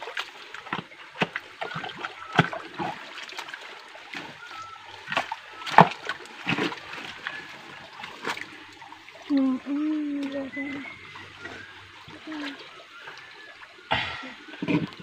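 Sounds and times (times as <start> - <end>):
trickle of running water: 0.0 - 15.0
water splashing: 0.0 - 15.0.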